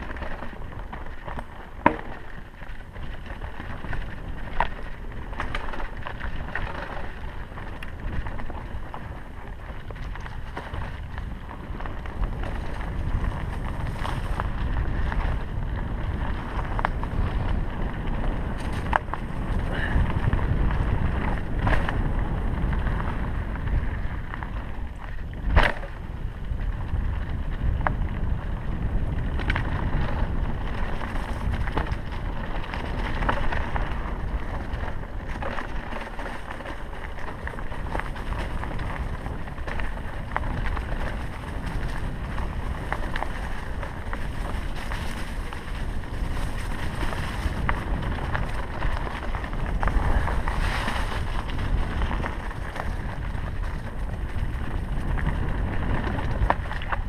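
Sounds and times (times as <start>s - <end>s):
bike rattling and clicking: 0.0s - 57.0s
tyres rumbling on dirt: 0.0s - 57.0s
wind buffeting microphone: 0.0s - 57.0s.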